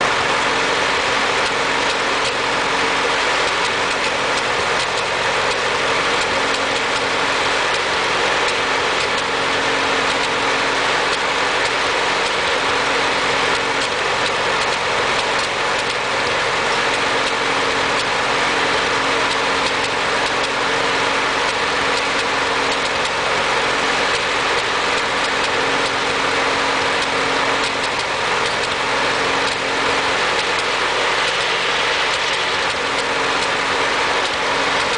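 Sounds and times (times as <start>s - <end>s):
tractor engine running with misfire: 0.0s - 34.9s.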